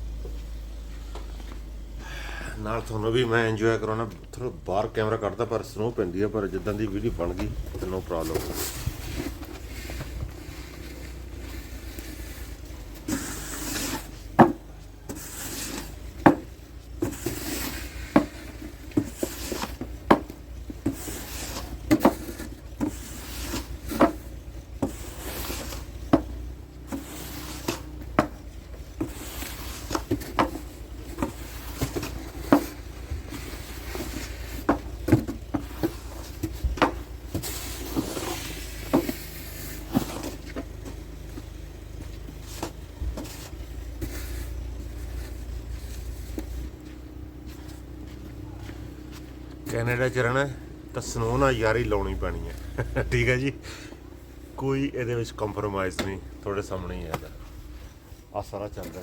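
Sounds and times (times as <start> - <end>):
footsteps crunching in snow: 0.0 - 59.0.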